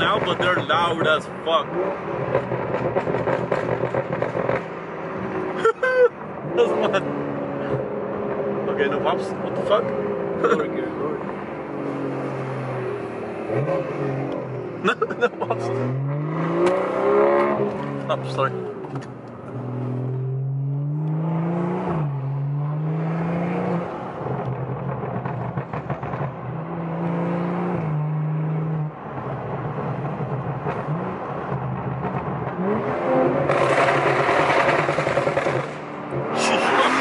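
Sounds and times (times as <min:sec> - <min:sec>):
turbocharged car engine accelerating: 0:00.0 - 0:37.0.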